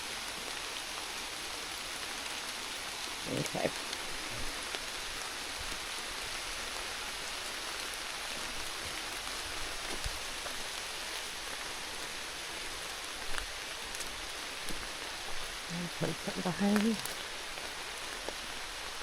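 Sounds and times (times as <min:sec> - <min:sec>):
raindrops ticking close by: 0:00.0 - 0:19.0
steady rain hiss: 0:00.0 - 0:19.0.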